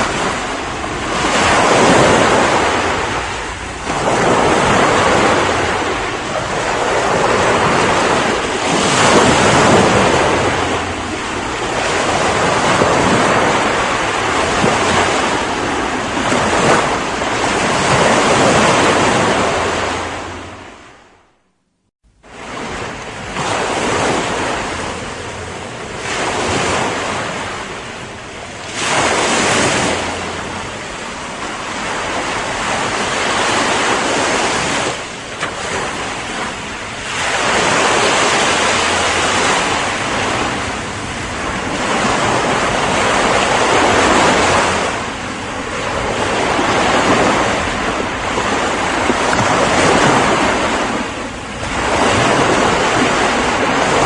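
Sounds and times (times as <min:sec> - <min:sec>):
ocean waves breaking: 0:00.0 - 0:21.4, 0:22.1 - 0:54.0.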